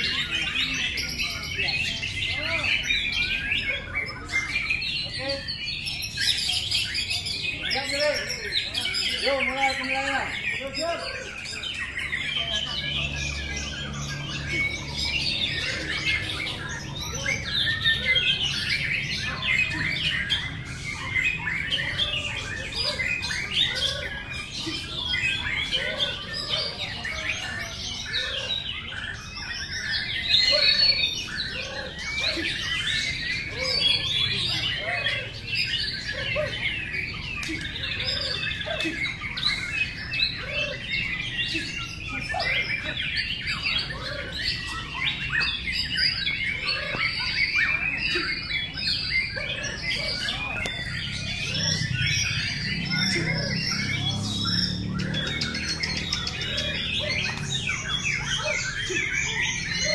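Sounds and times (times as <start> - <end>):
many birds singing: 0.0 - 59.9.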